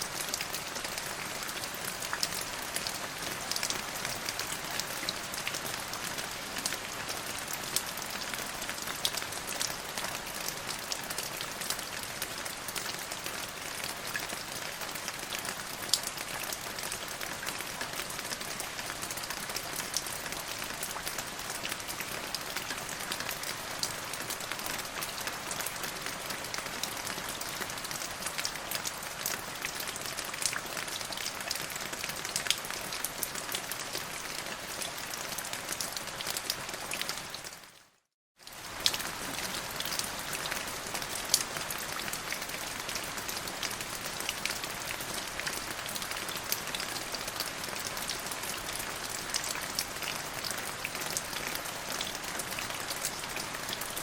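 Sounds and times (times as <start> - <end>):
rain falling with drop hits: 0.0 - 54.0.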